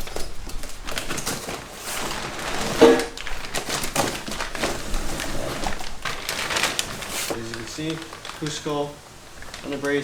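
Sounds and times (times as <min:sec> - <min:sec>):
cardboard packaging rustling: 0:00.0 - 0:10.0.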